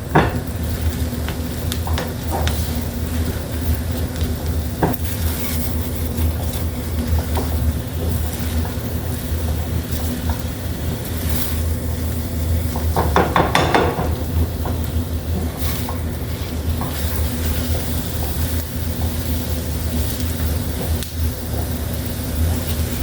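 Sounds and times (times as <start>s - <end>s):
eggs sizzling in frying pan: 0.0s - 23.0s.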